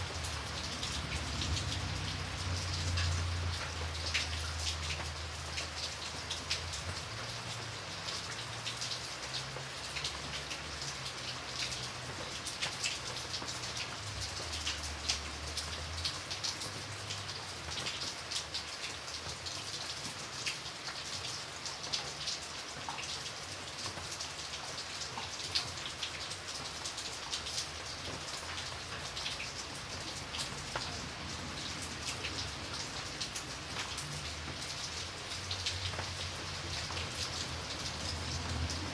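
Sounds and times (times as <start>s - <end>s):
raindrops ticking on a surface: 0.0s - 38.9s.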